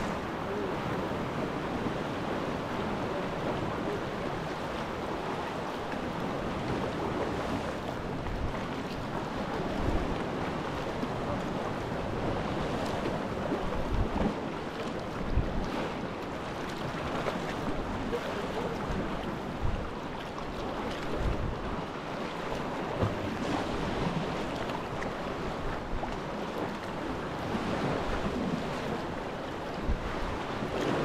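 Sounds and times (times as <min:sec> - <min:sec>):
water lapping around kayak: 0:00.0 - 0:31.0
waves washing over rocks: 0:00.0 - 0:31.0
wind rumbling on microphone: 0:00.0 - 0:31.0.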